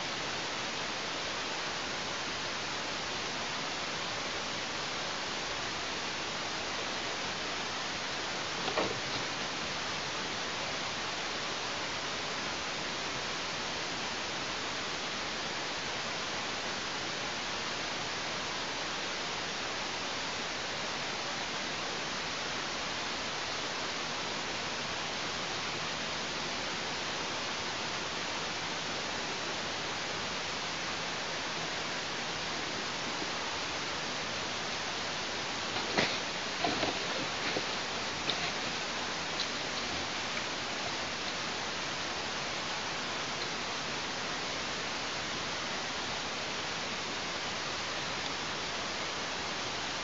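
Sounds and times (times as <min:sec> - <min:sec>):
microphone hiss: 0:00.0 - 0:50.0.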